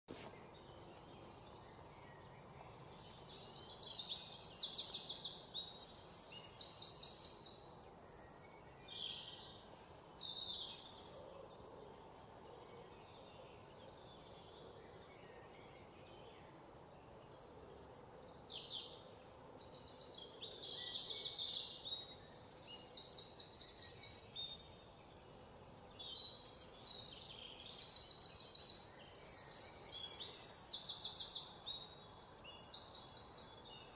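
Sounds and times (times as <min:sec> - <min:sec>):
birds chirping and trilling: 0:00.1 - 0:33.9
faint background hiss: 0:00.1 - 0:33.9.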